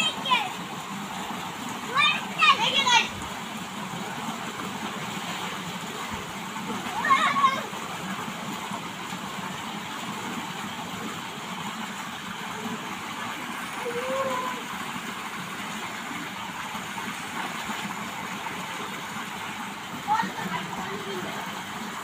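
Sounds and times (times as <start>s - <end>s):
water gushing into a tank: 0.0s - 22.0s.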